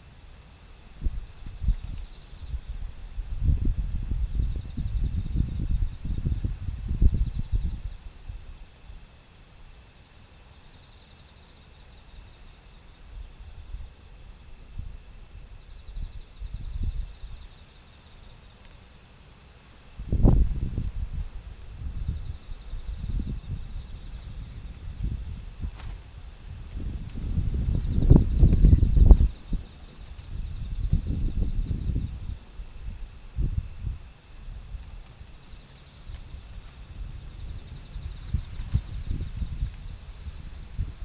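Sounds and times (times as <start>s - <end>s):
wind gusting against microphone: 0.0s - 9.0s, 13.2s - 17.6s, 19.8s - 41.0s
insects trilling: 0.0s - 41.0s.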